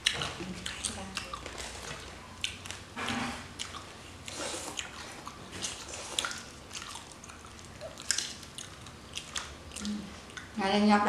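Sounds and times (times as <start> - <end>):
chewing and lip smacking: 0.0 - 10.6.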